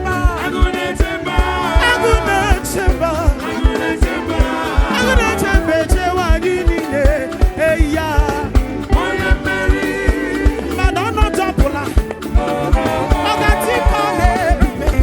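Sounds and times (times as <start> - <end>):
voices singing with vibrato: 0.0 - 6.9, 8.4 - 11.0, 12.2 - 15.0
band playing: 0.0 - 15.0.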